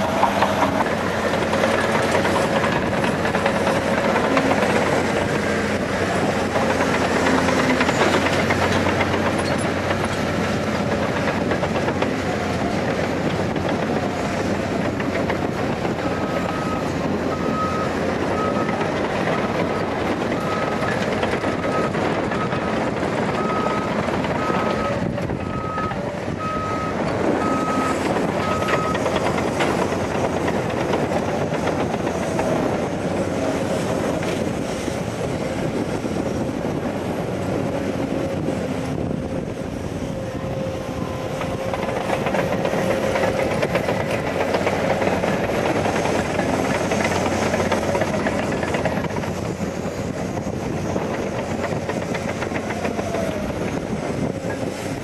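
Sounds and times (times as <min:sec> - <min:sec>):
excavator diesel engine and hydraulics: 0:00.0 - 0:55.0.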